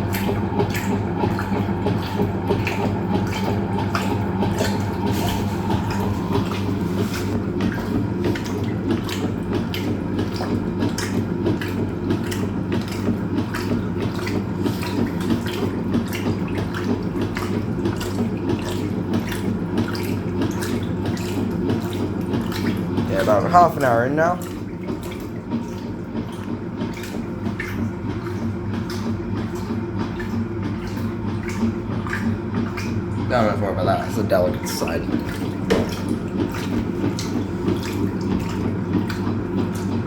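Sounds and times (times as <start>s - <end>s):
washing machine motor hum: 0.0s - 40.0s
water sloshing in drum: 0.0s - 40.0s.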